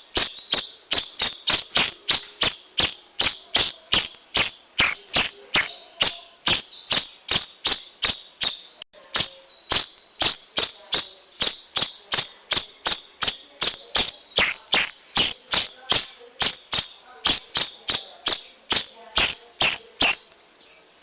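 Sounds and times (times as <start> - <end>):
songbird singing sharp high notes: 0.0 - 21.0.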